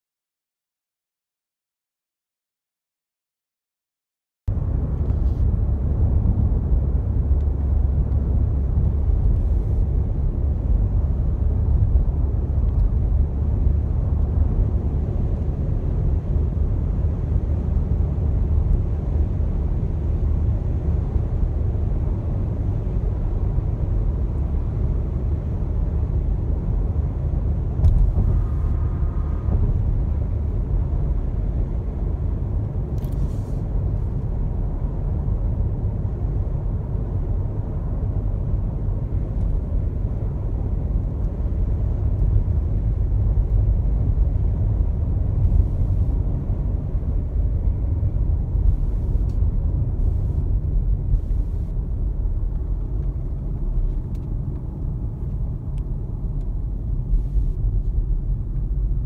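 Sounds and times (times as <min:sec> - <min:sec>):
car road and tyre noise: 0:04.5 - 0:59.0.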